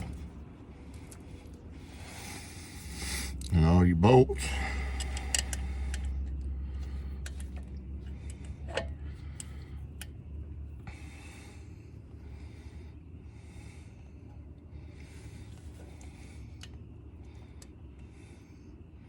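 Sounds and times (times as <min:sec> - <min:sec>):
steady low hum: 0:00.0 - 0:19.0
person breathing: 0:00.8 - 0:03.4, 0:04.4 - 0:10.0, 0:10.8 - 0:18.9.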